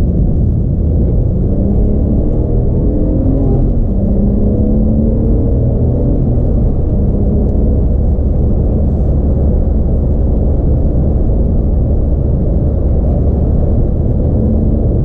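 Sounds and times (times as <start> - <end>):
car engine rumble in cabin: 0.0 - 15.0
road noise: 0.0 - 15.0.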